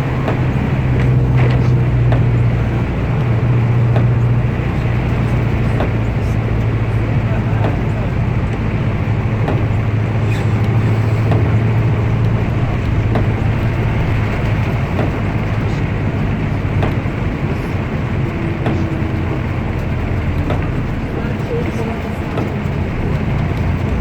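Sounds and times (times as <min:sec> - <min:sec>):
bus engine hum: 0:00.0 - 0:24.0
road noise: 0:00.0 - 0:24.0.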